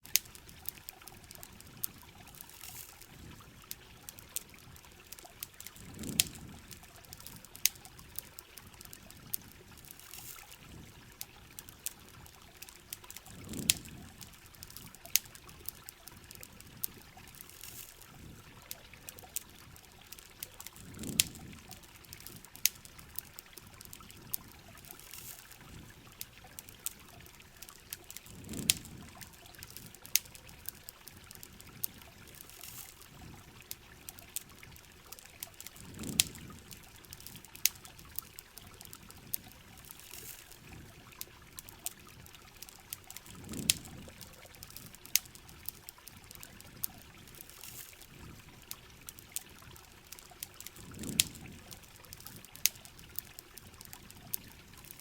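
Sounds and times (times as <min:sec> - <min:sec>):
campfire crackling: 0:00.0 - 0:55.0
steady rain: 0:00.0 - 0:55.0
trickling water: 0:00.0 - 0:55.0.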